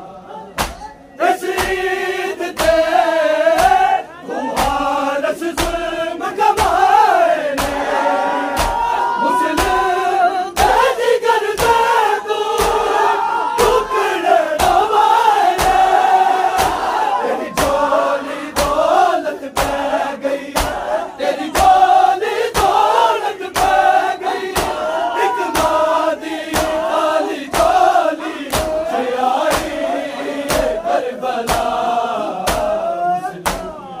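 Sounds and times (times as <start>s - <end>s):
men chanting: 0.0s - 34.0s
crowd beating chests: 0.5s - 34.0s.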